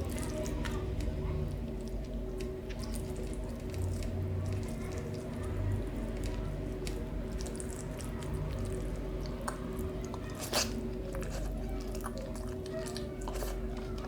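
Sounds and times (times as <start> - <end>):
chewing and wet mouth sounds: 0.0 - 14.0.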